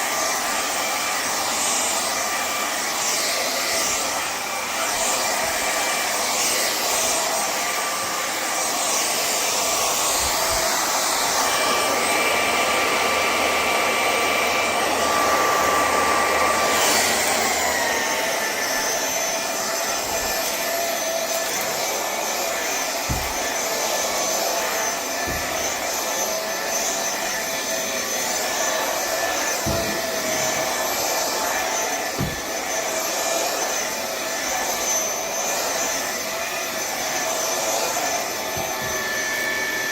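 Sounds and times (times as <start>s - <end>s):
stick vacuum cleaner running: 0.0s - 39.9s.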